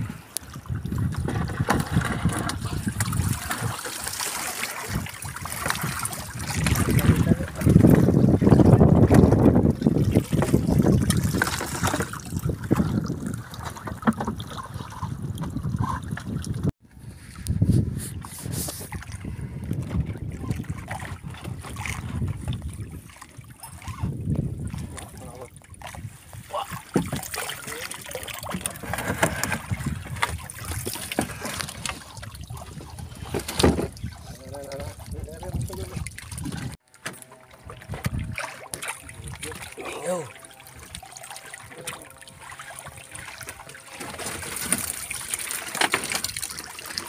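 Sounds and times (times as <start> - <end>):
water splashing and dripping: 0.0 - 16.7, 18.8 - 47.0.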